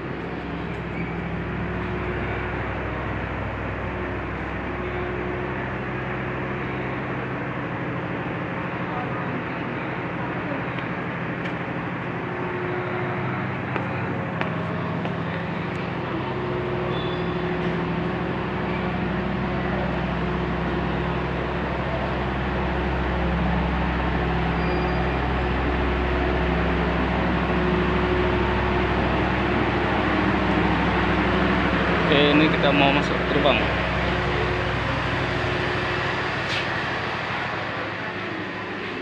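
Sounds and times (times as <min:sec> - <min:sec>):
moving vehicle rumble: 0:00.0 - 0:39.0.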